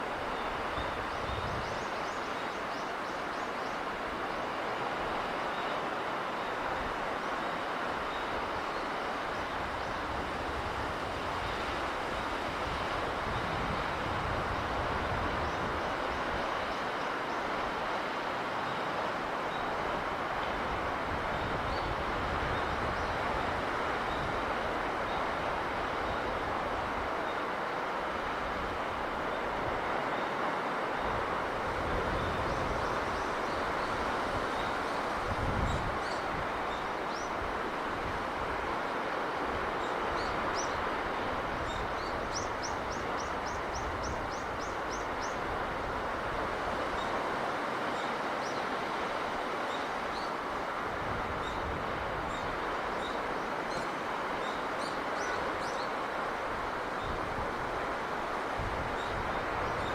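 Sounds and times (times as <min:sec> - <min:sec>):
sea breeze and surf: 0:00.0 - 0:59.9.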